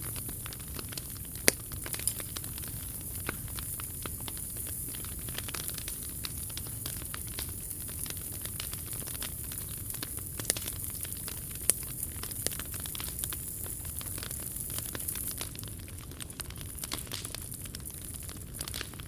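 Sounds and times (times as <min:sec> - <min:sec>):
low fire rumble: 0:00.0 - 0:19.0
wood fire crackling: 0:00.0 - 0:19.0.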